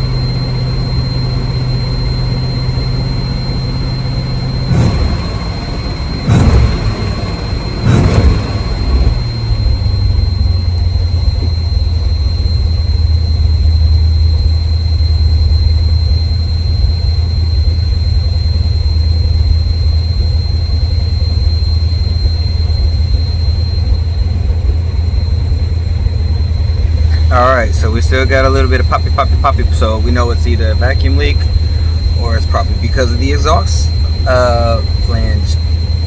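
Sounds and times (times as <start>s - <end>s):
car engine idling with popping: 0.0s - 36.0s
thin high whine: 0.0s - 36.0s.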